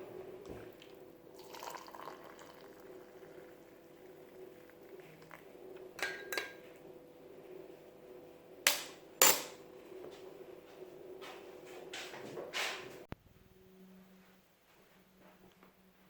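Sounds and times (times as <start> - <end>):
faint steady hum: 0.0 - 12.1, 13.1 - 16.0.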